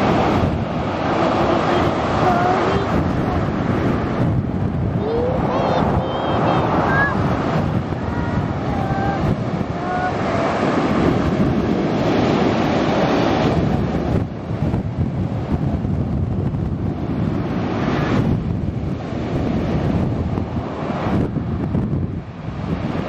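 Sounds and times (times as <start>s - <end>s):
sea waves breaking: 0.0s - 23.0s
wind buffeting microphone: 0.0s - 23.0s.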